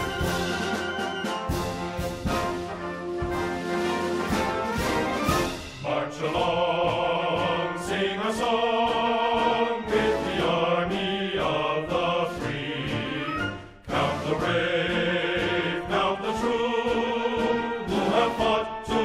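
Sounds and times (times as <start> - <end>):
choir singing: 0.0 - 2.4, 3.2 - 19.0
orchestral backing: 0.0 - 19.0.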